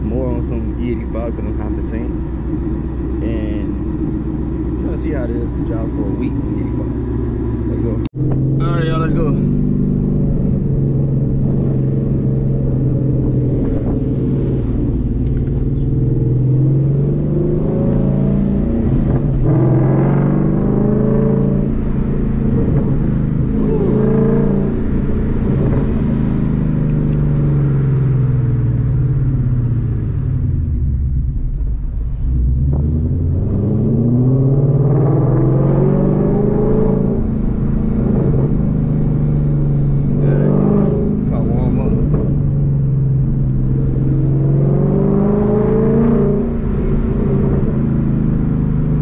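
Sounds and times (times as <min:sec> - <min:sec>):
car engine accelerating: 0:00.0 - 0:49.0.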